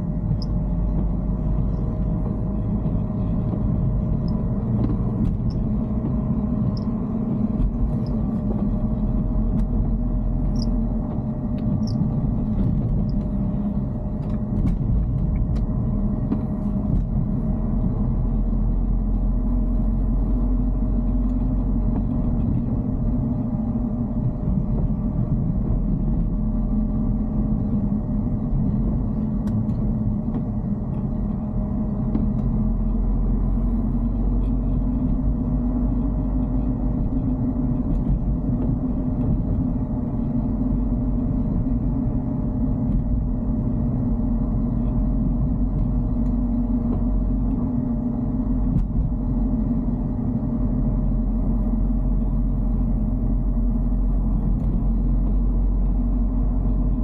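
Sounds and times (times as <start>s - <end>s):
engine and road rumble in car cabin: 0.0s - 57.0s
faint steady hum: 0.0s - 57.0s.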